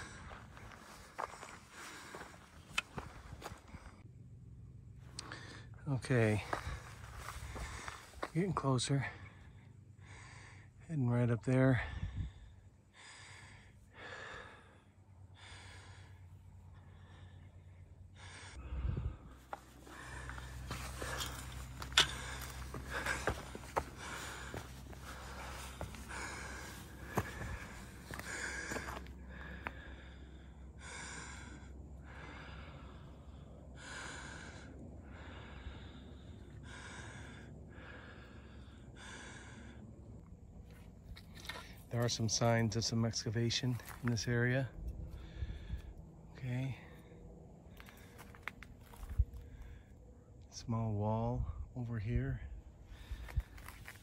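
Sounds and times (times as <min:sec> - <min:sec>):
person breathing hard: 0:00.0 - 0:04.1, 0:05.2 - 0:05.8, 0:06.4 - 0:08.3, 0:09.1 - 0:10.8, 0:11.7 - 0:41.8, 0:44.8 - 0:50.4, 0:52.6 - 0:54.0
steady low rumble: 0:00.0 - 0:54.0.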